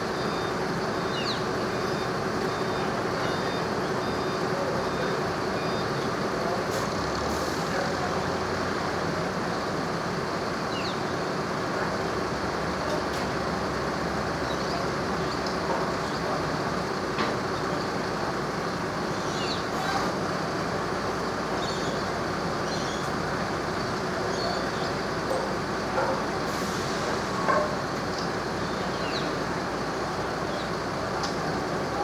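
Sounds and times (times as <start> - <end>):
engine rumble: 0.0 - 32.0.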